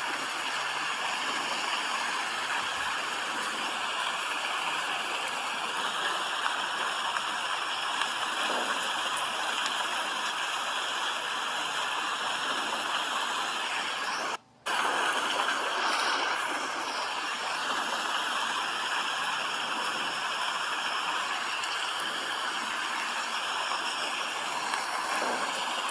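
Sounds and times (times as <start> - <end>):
steady rain: 0.0 - 25.9.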